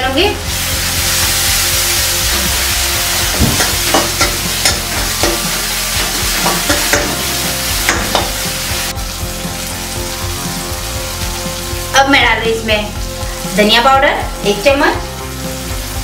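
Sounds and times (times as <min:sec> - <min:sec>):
masala sizzling in oil: 0:00.1 - 0:16.0.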